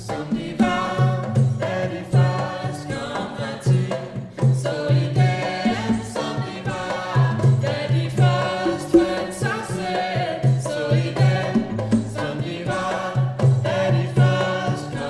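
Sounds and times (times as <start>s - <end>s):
hand drum percussion: 0.0s - 15.0s
voices singing in harmony: 0.0s - 15.0s.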